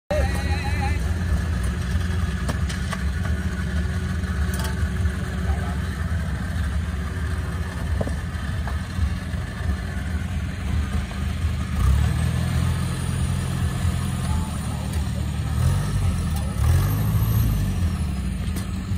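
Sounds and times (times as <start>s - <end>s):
combine harvester engine running: 0.1s - 18.9s.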